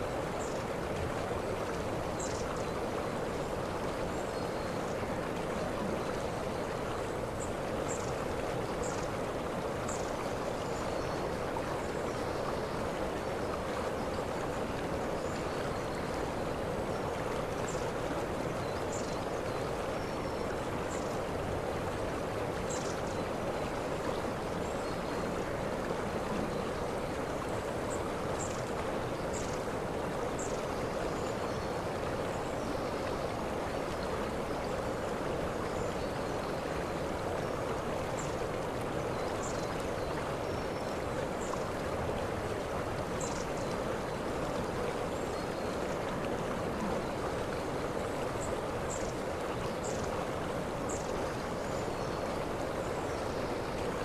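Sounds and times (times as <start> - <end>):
waterfall: 0.0 - 54.0.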